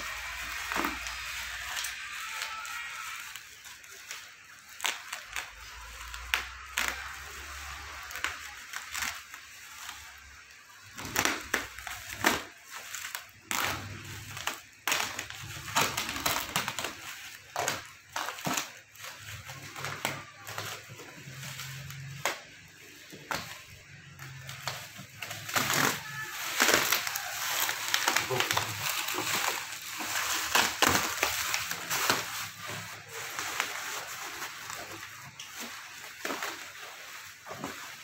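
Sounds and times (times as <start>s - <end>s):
bubble wrap crinkling and crackling: 0.0s - 38.0s.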